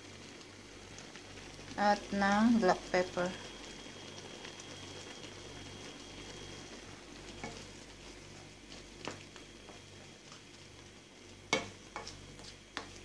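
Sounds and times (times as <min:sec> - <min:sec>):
shrimp boiling and bubbling: 0:00.0 - 0:13.0.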